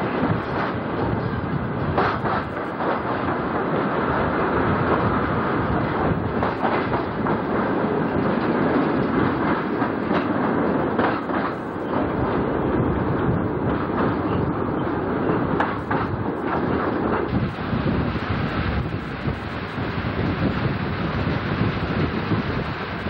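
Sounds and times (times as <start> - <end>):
train rushing rumble: 0.0 - 23.0
wheels clicking over rail joints: 0.0 - 23.0.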